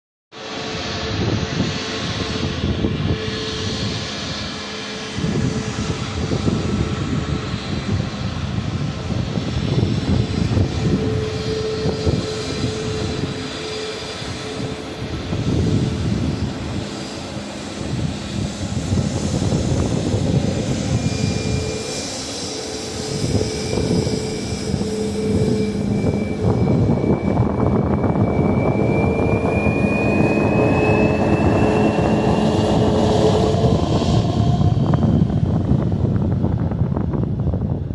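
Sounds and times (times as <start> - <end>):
jet engine whine rising: 0.4 - 37.9
jet engines rumbling: 0.4 - 37.9.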